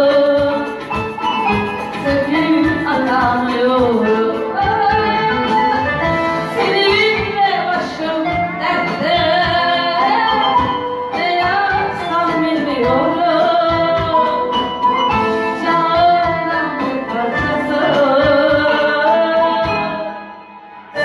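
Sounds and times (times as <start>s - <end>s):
woman singing: 0.0s - 14.7s, 15.4s - 20.4s
instrumental backing music: 0.0s - 21.0s.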